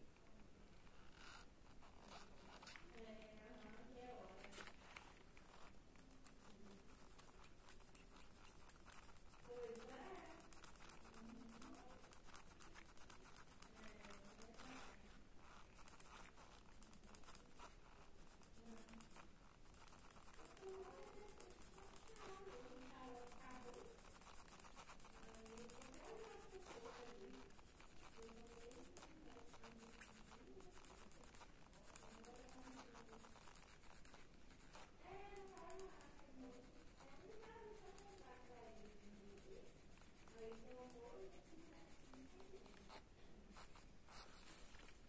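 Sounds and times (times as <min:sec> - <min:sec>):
pencil scratching on paper: 0:00.8 - 0:45.0.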